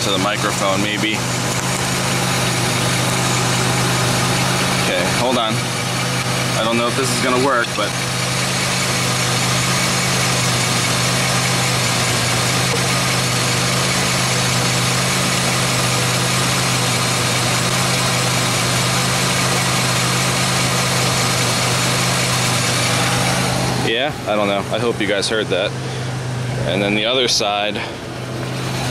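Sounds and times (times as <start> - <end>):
car drivetrain hum: 0.0 - 28.9
hub bearing grinding: 0.0 - 28.9.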